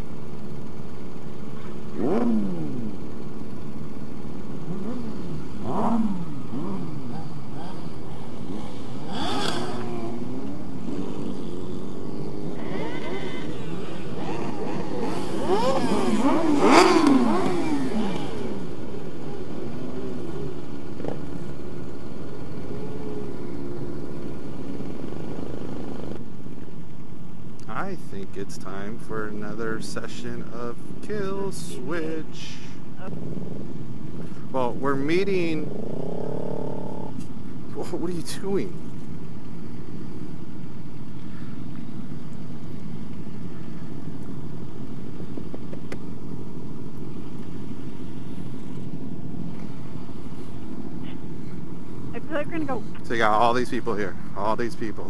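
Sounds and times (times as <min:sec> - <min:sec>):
motorcycle engines revving: 0:00.0 - 0:26.3, 0:27.8 - 0:55.0.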